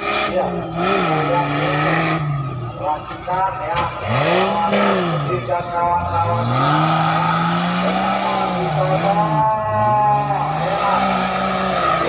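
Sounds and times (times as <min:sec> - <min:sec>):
car engine revving hard: 0:00.0 - 0:02.9, 0:03.8 - 0:12.0.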